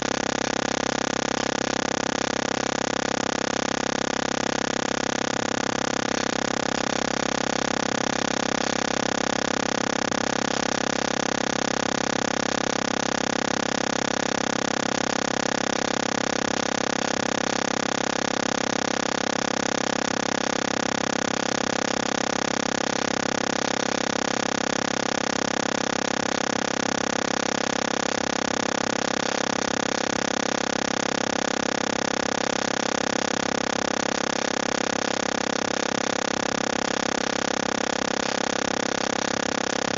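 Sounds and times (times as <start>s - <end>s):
loud electronic noise hum: 0.0s - 39.9s.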